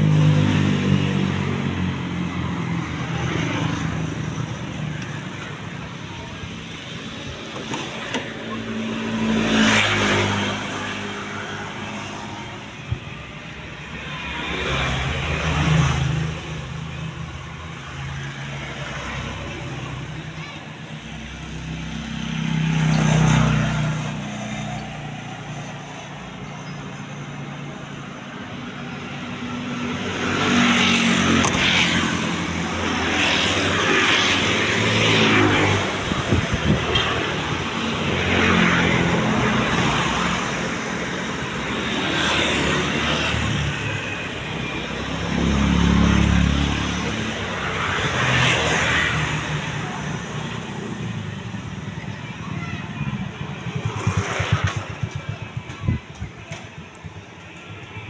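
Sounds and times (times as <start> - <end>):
vehicles passing on street: 0.0 - 58.0.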